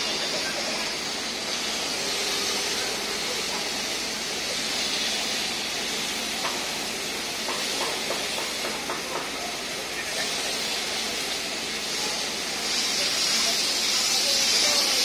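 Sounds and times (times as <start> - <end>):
hose jet spraying on concrete: 0.0 - 15.0.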